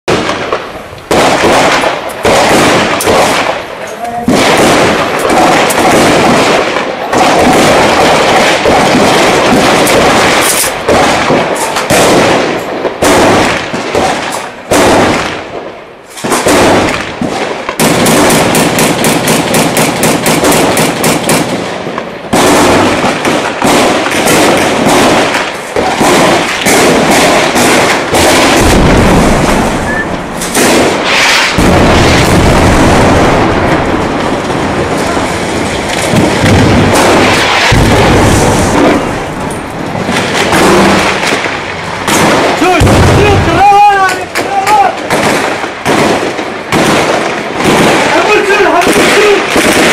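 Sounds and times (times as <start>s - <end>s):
rifle shots: 0.1s - 49.9s
automatic gunfire bursts: 1.1s - 3.7s, 4.3s - 15.3s, 16.3s - 21.7s, 22.3s - 39.4s, 40.0s - 43.4s, 44.4s - 49.9s.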